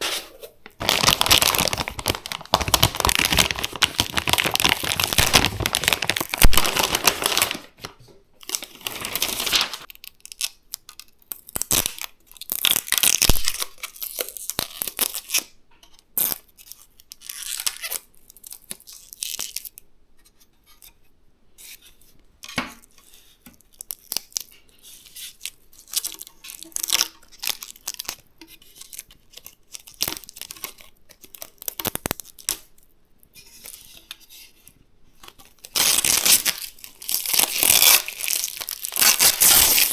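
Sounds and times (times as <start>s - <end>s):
plastic packaging crinkling and tearing: 0.0s - 15.5s, 16.2s - 19.8s, 23.7s - 32.9s, 35.3s - 39.9s.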